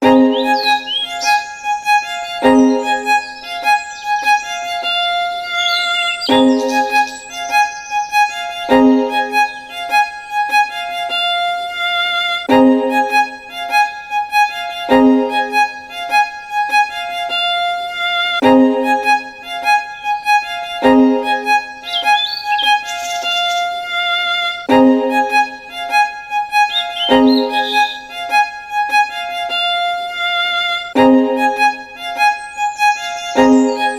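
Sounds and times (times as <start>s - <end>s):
violin melody: 0.0s - 33.9s.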